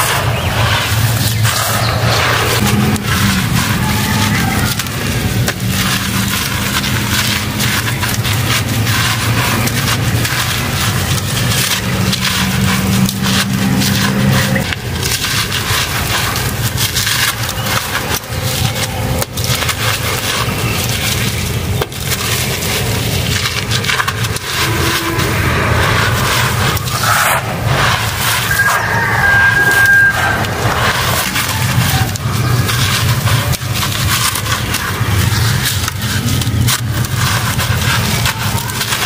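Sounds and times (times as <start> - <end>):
sand-cement crumbling in hands: 0.0 - 39.0.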